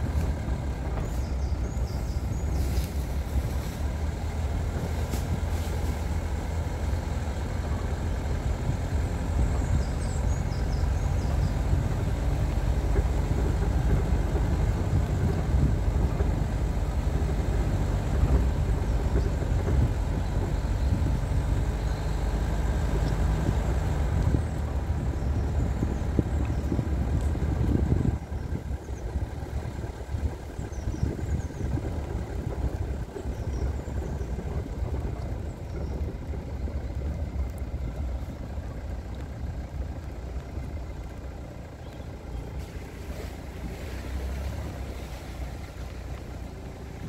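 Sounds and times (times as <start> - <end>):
vehicle engine and road rumble: 0.0 - 47.0.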